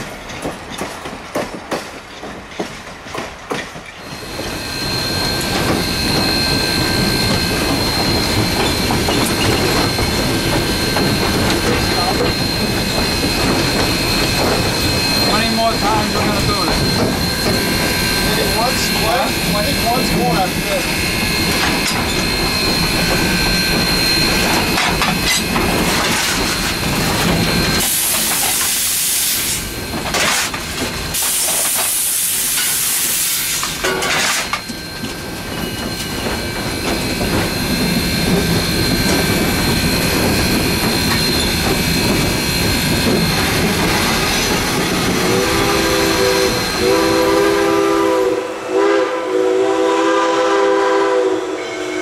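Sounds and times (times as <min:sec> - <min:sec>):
steam locomotive rumble: 0:00.0 - 0:52.0
loud steam hissing: 0:04.0 - 0:30.0, 0:30.9 - 0:52.0.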